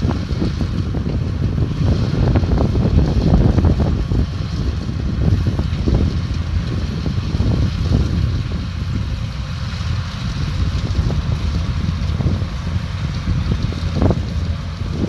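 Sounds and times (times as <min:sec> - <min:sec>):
harvester engine rumble: 0:00.0 - 0:15.0
wind buffeting microphone: 0:00.0 - 0:15.0.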